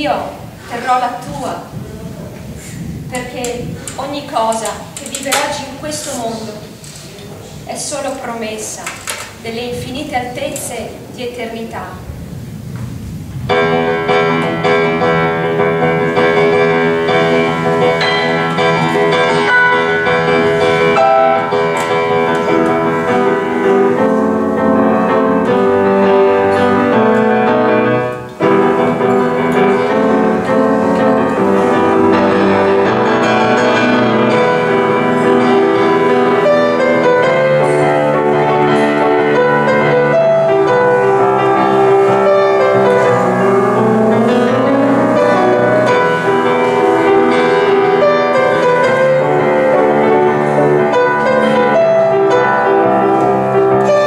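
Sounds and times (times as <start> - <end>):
grand piano playing: 9.4 - 54.0.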